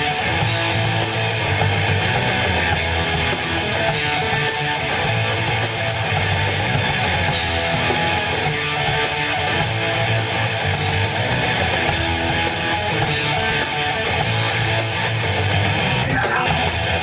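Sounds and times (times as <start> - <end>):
electric guitar: 0.0 - 17.0
rock band playing live: 0.0 - 17.0.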